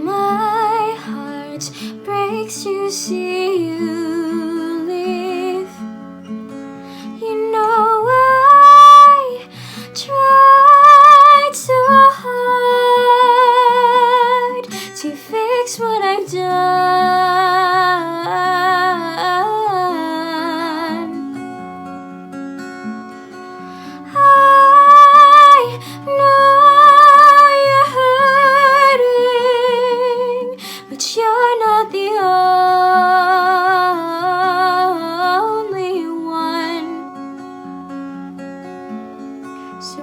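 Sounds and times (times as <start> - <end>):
woman singing with vibrato: 0.0 - 5.8, 7.1 - 21.3, 24.0 - 37.1
plucked acoustic guitar: 0.0 - 40.0.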